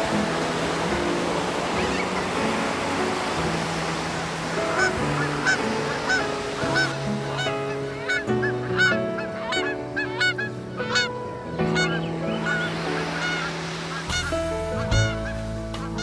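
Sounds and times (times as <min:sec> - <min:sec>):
background music chords: 0:00.0 - 0:16.0
birds honking: 0:00.0 - 0:16.0.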